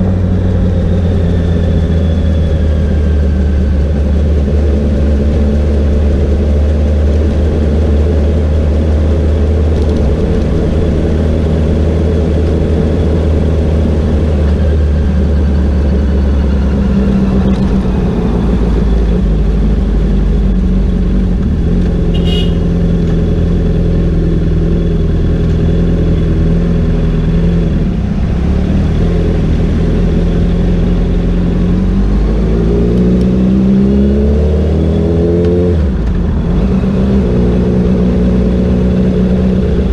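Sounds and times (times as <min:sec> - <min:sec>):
motorcycle engine running: 0:00.0 - 0:32.4
road and wind rush: 0:00.0 - 0:39.9.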